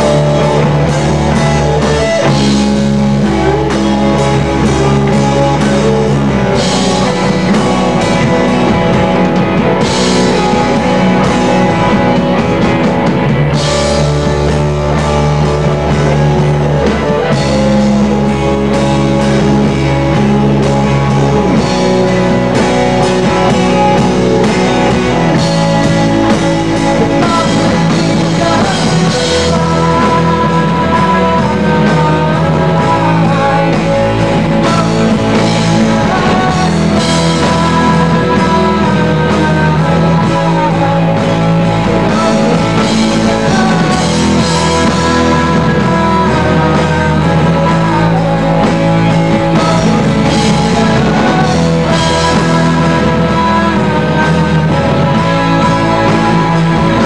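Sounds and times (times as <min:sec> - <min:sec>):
lead guitar line: 0:00.0 - 0:57.0
live rock band playing: 0:00.0 - 0:57.0.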